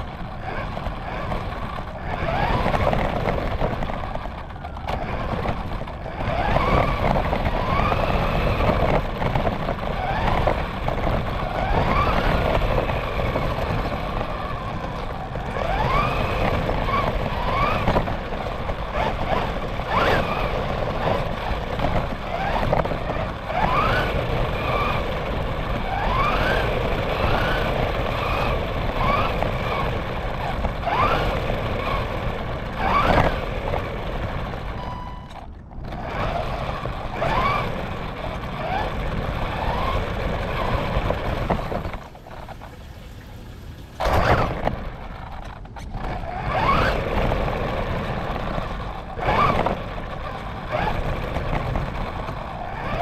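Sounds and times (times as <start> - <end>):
tyres on pavement: 0.0 - 53.0
radio-controlled car motor whining: 0.3 - 42.8, 44.0 - 53.0.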